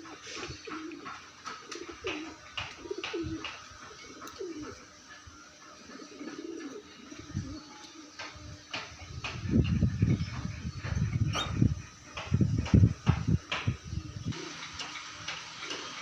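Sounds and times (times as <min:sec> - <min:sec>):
pigeons cooing: 0:00.0 - 0:12.3, 0:13.3 - 0:16.0.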